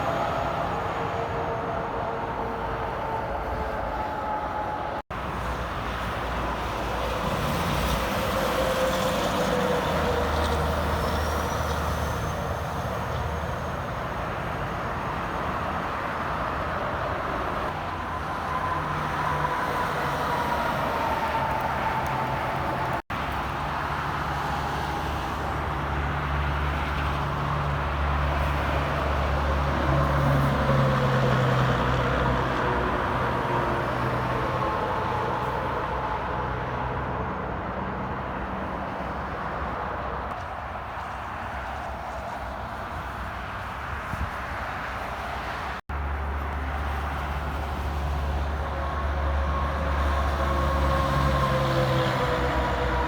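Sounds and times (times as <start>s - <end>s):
highway traffic: 0.0s - 53.0s.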